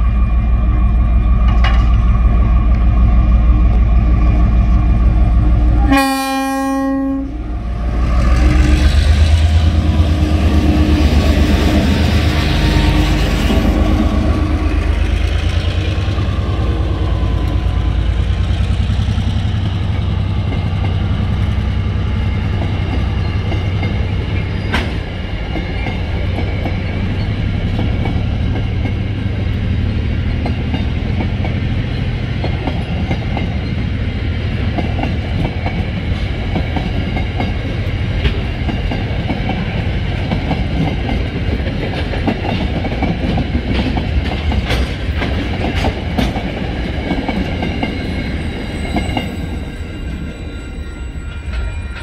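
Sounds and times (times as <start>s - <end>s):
diesel locomotive engine under load: 0.0s - 52.0s.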